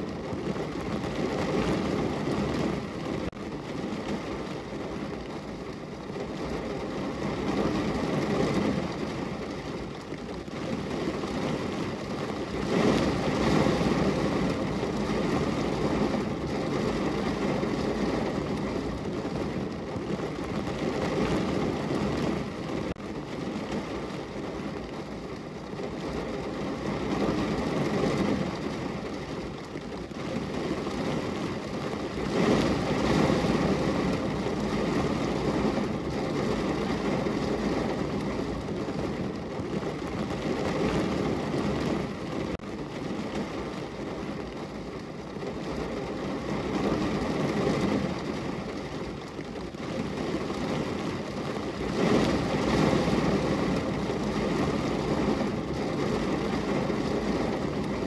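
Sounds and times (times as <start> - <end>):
rain on window pane: 0.0 - 58.0.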